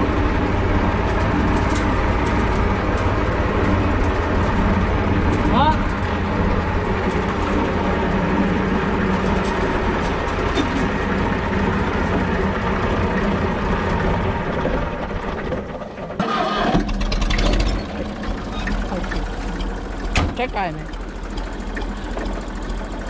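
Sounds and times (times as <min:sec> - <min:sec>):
diesel tractor engine idling: 0:00.0 - 0:23.0.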